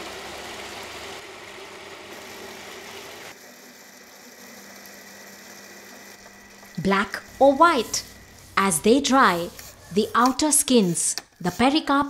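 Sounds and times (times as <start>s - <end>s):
machinery humming and hissing: 0.0s - 12.0s.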